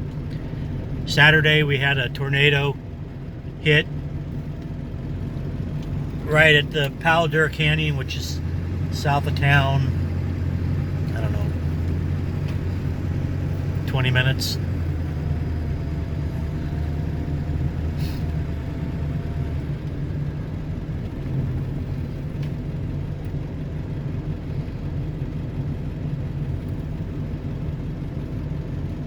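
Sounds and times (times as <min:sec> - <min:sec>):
low engine and road rumble: 0:00.0 - 0:29.0.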